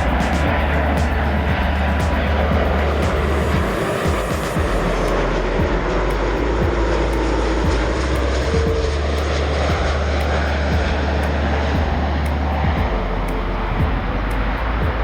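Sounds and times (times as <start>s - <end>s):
background music: 0.0s - 15.0s
jet engines roaring: 0.0s - 15.0s.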